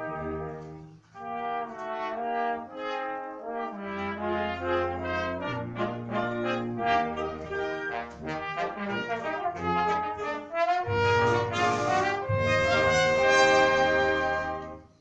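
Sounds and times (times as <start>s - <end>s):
trumpet and trombone duet: 0.0s - 15.0s
wind band accompanying: 0.0s - 15.0s.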